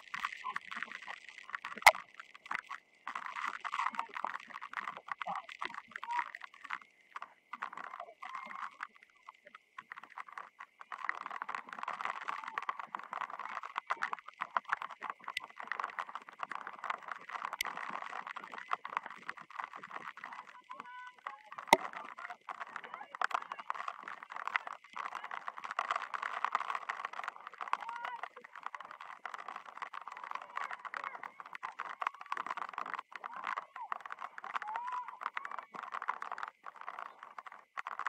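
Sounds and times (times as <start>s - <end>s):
crackle of small clicks: 0.0s - 38.0s.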